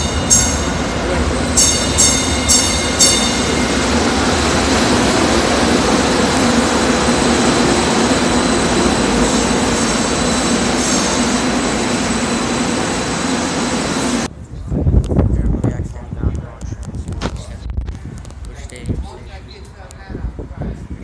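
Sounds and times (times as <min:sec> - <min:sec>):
light rail train rumbling: 0:00.0 - 0:21.0.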